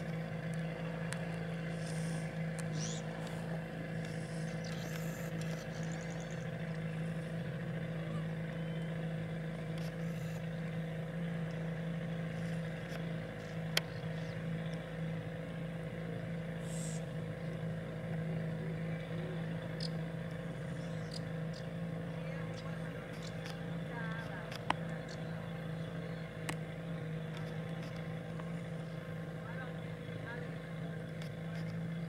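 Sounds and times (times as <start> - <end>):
outboard motor droning: 0.0 - 32.0.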